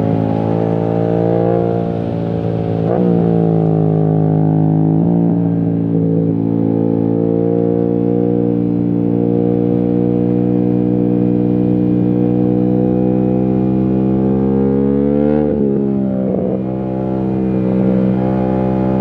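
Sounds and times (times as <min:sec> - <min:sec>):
motorcycle engine at steady throttle: 0:00.0 - 0:19.0.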